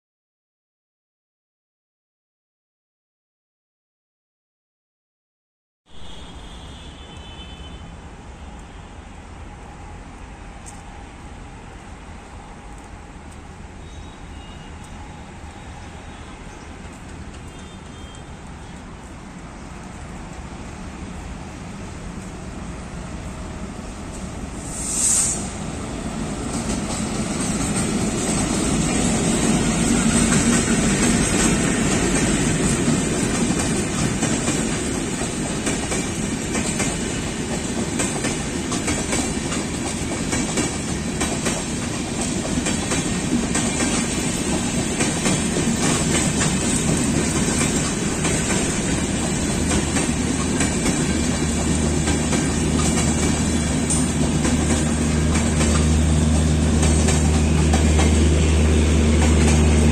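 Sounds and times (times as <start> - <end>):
train wheels clickety-clack: 7.1 - 22.6, 23.2 - 59.9
diesel locomotive passing: 7.8 - 59.9.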